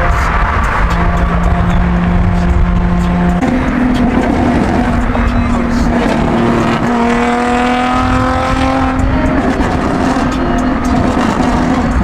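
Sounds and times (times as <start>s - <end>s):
car engine high revs: 0.0s - 12.0s
exhaust rumble: 0.0s - 12.0s.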